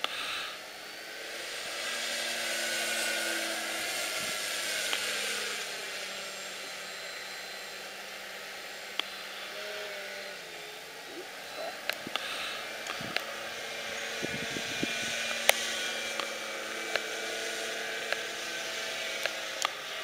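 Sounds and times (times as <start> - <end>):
model plane motor whine: 0.0 - 20.0.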